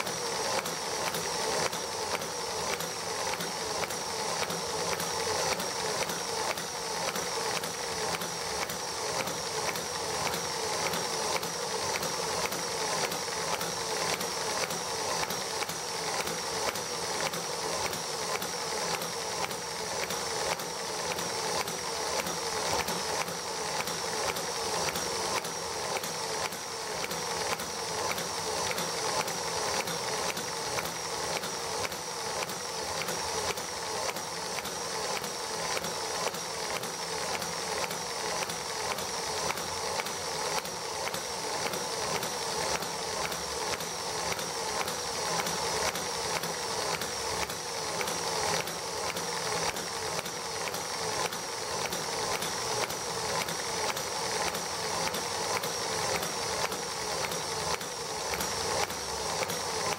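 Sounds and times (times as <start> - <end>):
engine running with clatter: 0.0 - 59.9.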